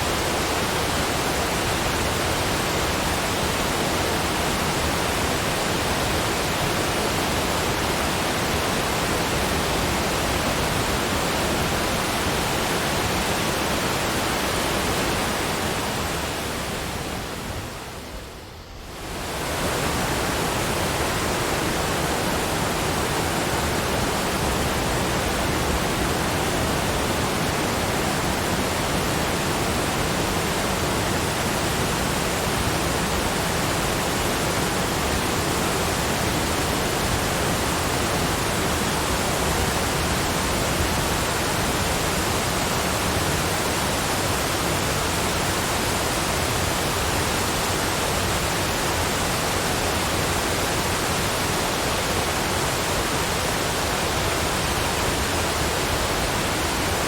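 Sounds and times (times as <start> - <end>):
steady broadband rushing noise: 0.0 - 57.0.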